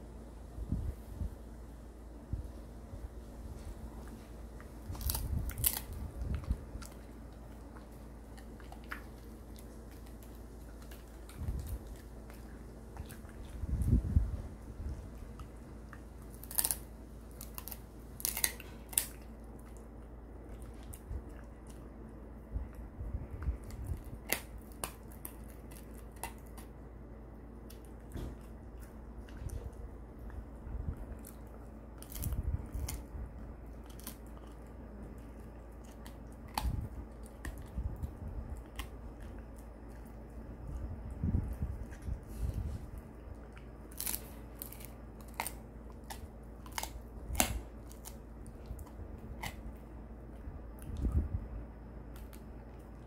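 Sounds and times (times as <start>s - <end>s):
dog chewing quietly: 0.6s - 53.0s
dog crunching a chew: 3.6s - 51.2s, 52.0s - 53.0s.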